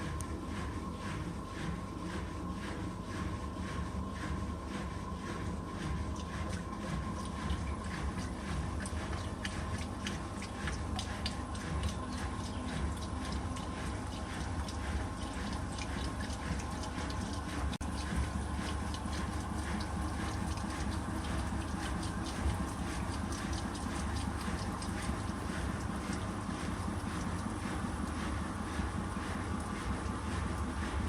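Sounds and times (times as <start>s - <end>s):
washing machine hum: 0.0s - 31.0s.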